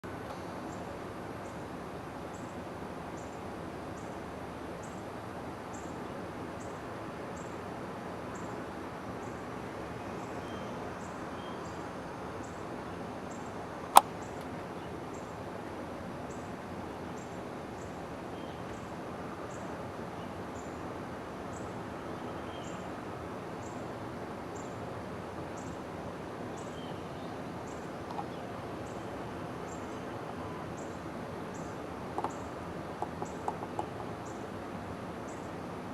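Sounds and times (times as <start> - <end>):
outdoor background noise: 0.0 - 35.9.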